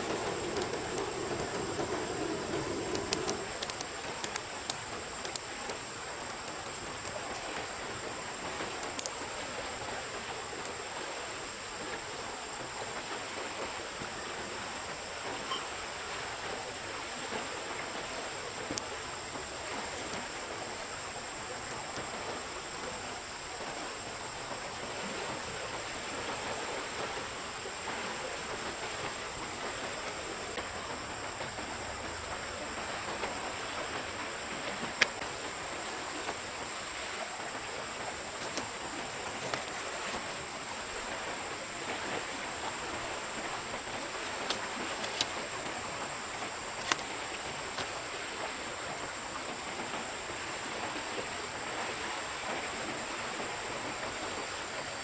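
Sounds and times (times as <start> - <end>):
forest stream running: 0.0 - 55.0.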